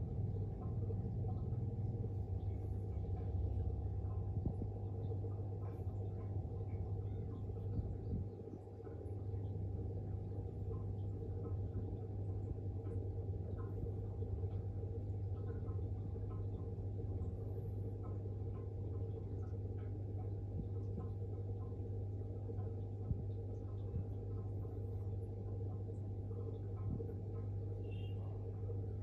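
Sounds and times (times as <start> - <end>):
aquarium pump humming: 0.0 - 29.0
faint light ticks: 0.2 - 29.0.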